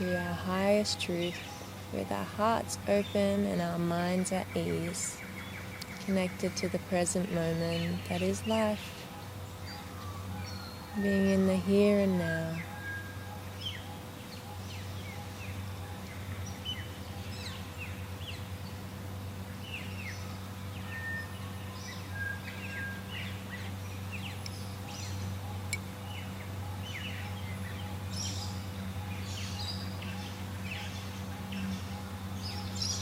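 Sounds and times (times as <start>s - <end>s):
steady low hum: 0.0s - 33.0s
wild birds chirping: 0.0s - 33.0s.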